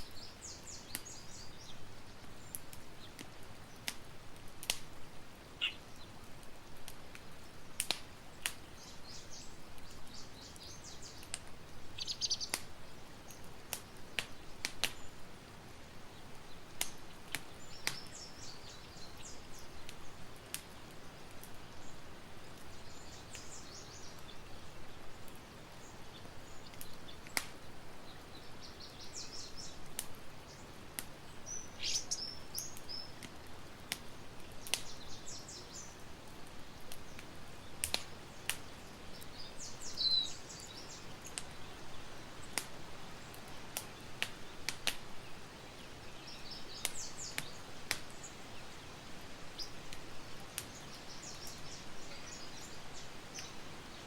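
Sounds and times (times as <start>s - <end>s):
campfire crackling and popping: 0.0s - 54.0s
small birds chirping: 0.0s - 54.0s.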